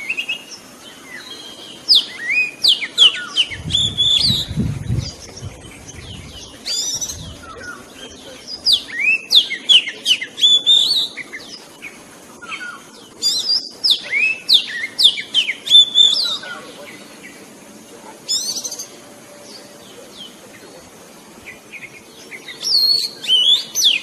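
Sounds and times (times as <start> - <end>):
bird singing whistled notes: 0.0 - 17.4, 18.3 - 20.4, 21.4 - 24.0.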